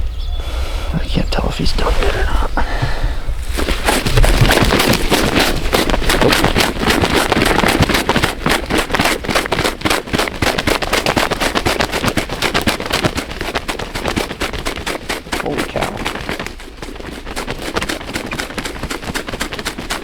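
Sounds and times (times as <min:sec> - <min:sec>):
turkey wings beating on ground: 0:03.5 - 0:20.0.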